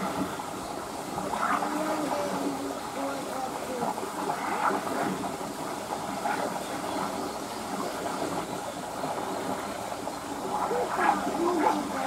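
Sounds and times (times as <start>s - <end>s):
faint voices: 0.0s - 12.0s
running water rushing: 0.0s - 12.0s.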